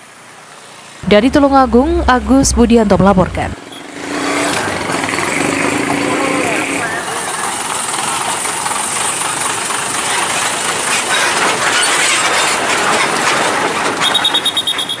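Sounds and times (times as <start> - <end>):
truck rolling past: 0.8 - 15.0.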